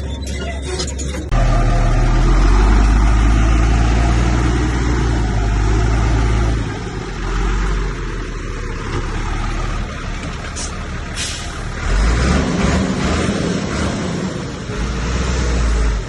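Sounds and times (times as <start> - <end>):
heavy machinery diesel engine drone: 0.0 - 16.0.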